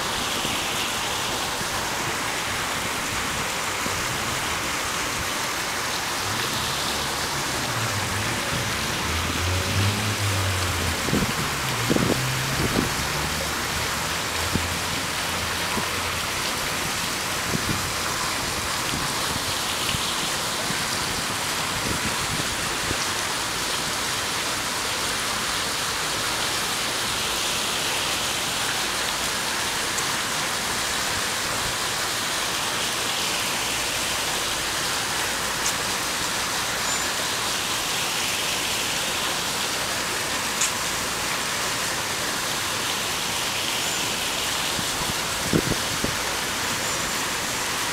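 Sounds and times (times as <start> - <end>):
water flowing over stone: 0.0 - 47.9.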